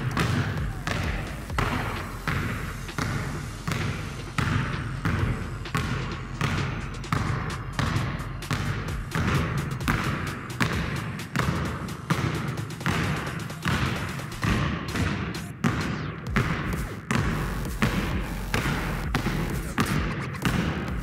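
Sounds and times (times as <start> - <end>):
basketballs bouncing on wooden floor: 0.0 - 21.0.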